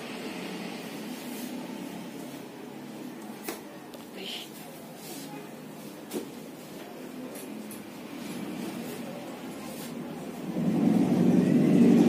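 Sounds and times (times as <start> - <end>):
room noise: 0.0 - 12.0.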